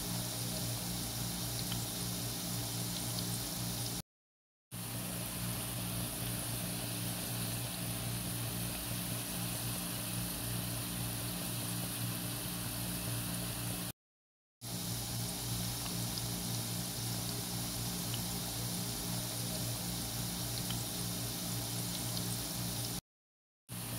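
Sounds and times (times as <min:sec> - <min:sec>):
potatoes deep-frying in oil: 0:00.0 - 0:04.0, 0:04.8 - 0:13.9, 0:14.6 - 0:23.0.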